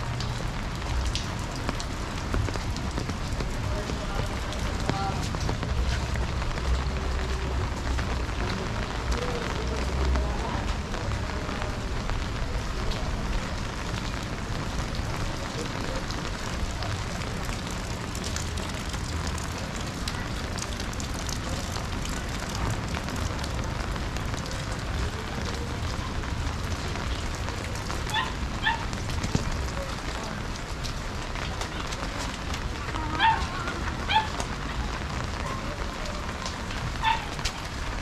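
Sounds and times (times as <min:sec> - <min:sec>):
rain splashing on street: 0:00.0 - 0:38.0.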